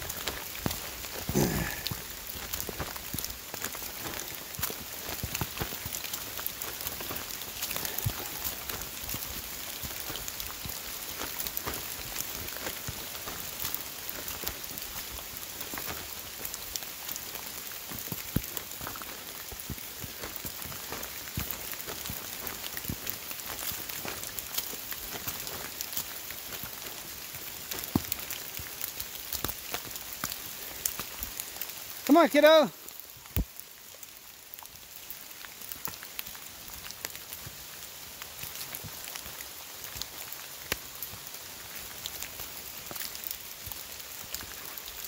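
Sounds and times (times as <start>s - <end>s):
rain pattering: 0.0s - 45.0s.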